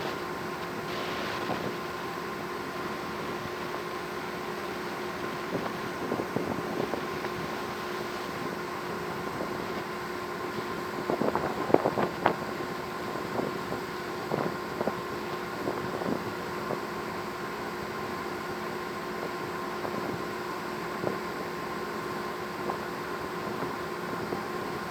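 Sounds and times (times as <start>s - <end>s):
ship engine and machinery drone: 0.0s - 24.9s.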